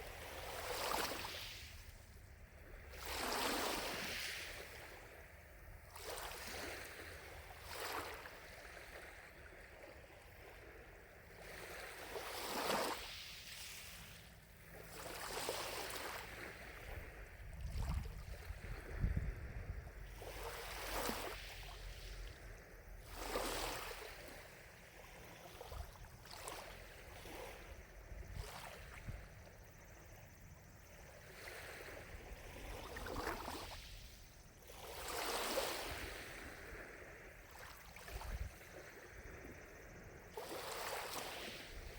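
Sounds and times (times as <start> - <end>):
waves lapping at shore: 0.0 - 41.9.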